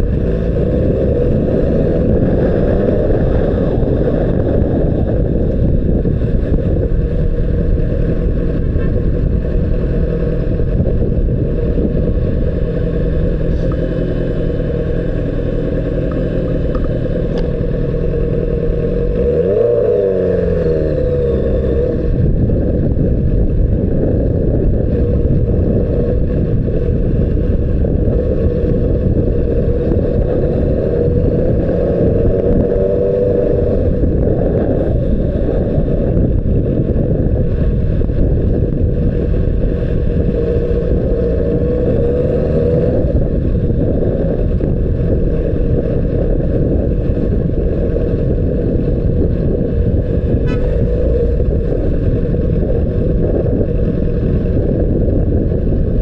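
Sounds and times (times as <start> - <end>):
motorcycle engine at speed: 0.0 - 56.0
wind rumble on microphone: 0.0 - 56.0.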